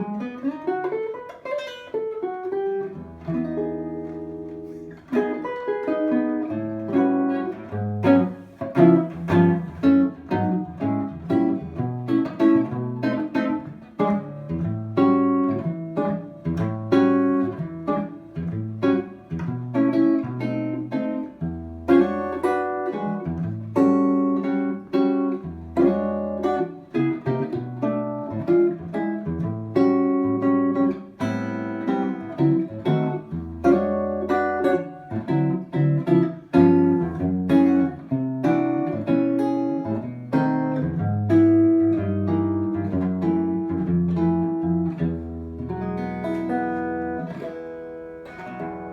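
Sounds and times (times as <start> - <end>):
guitar playing chords and notes: 0.0 - 48.9.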